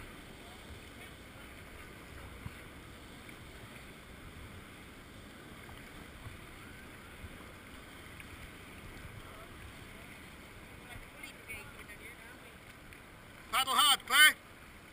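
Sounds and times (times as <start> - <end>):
paddle strokes in water: 0.0 - 14.9
water sloshing against hull: 0.0 - 14.9.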